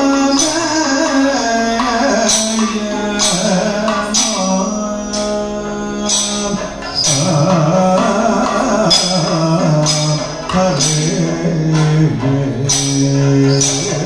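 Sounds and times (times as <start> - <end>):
hand cymbals: 0.0 - 14.0
man singing: 0.0 - 14.0.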